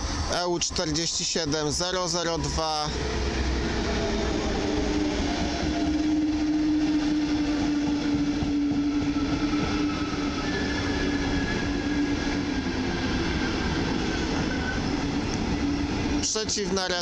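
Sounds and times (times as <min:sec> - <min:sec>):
locomotive hum: 0:00.0 - 0:17.0
train coaches rumbling on rails: 0:00.0 - 0:17.0.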